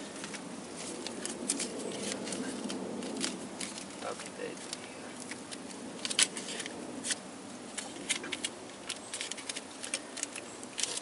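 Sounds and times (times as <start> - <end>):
paper and tape crinkling: 0.0 - 11.0.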